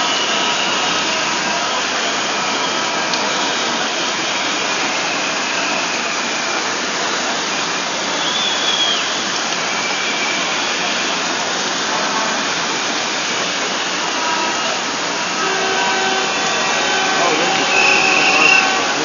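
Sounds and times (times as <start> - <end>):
rain: 0.0 - 19.0.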